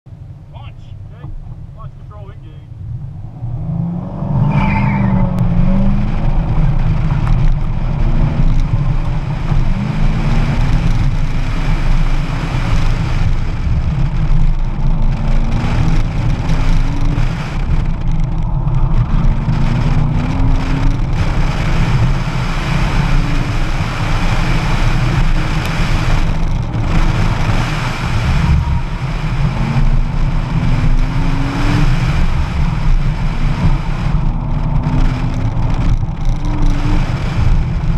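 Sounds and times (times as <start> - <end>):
car engine accelerating: 0.1 - 37.9
wind and road noise: 0.1 - 37.9.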